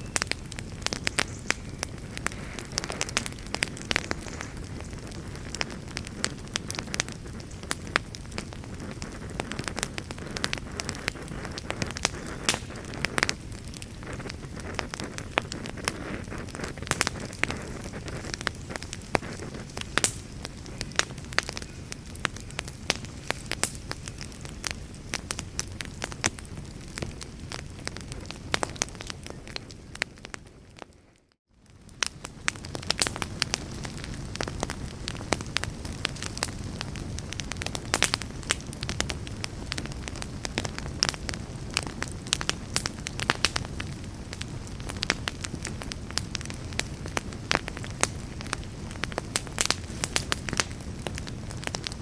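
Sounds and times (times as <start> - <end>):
fire crackles and pops: 0.0 - 52.0
campfire flames rushing: 0.1 - 52.0.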